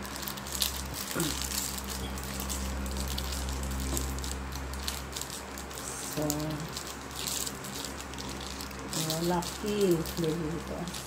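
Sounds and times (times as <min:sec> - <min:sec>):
low room hum: 0:00.0 - 0:11.0
rustling: 0:00.0 - 0:11.0.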